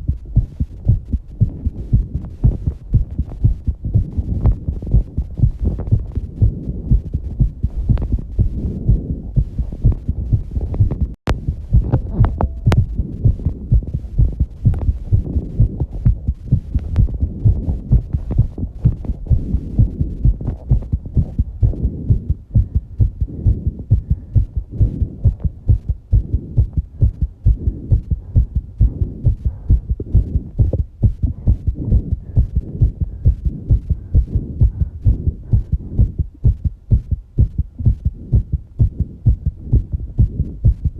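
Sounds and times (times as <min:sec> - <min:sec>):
fast heartbeat: 0:00.0 - 0:40.9.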